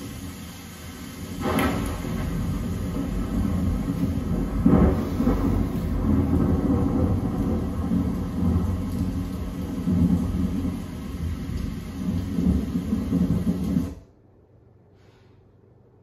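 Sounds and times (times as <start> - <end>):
rain: 0.0 - 14.1
rolling thunder: 0.0 - 14.1.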